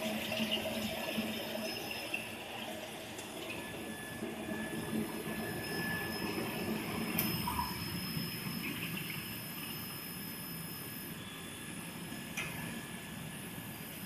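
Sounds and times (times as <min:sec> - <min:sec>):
high-pitched whine: 0:00.0 - 0:14.0
machinery hum: 0:00.0 - 0:14.0.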